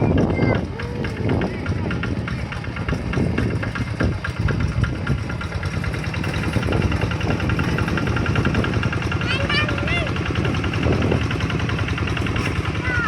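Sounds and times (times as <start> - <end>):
diesel engine knocking steadily: 0.0 - 13.0.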